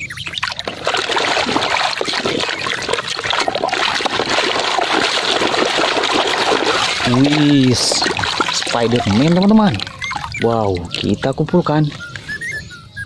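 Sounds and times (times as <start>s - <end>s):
water splashing in a plastic basin: 0.0s - 11.5s
hand scrubbing plastic toys: 0.7s - 11.3s.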